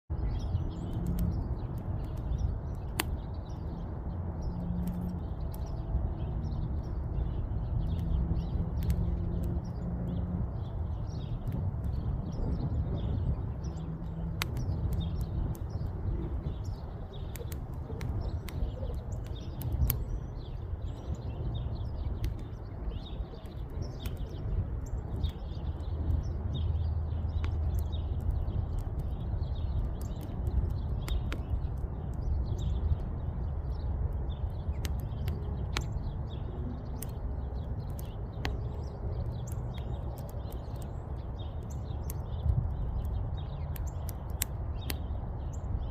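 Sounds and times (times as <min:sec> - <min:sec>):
small birds chirping: 0:00.1 - 0:45.9
wood fire crackling and popping: 0:00.2 - 0:45.8.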